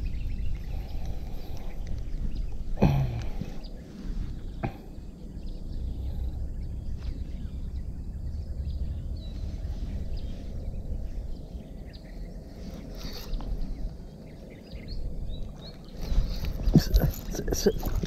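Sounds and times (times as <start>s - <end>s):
low rumble of handling noise: 0.0s - 18.0s.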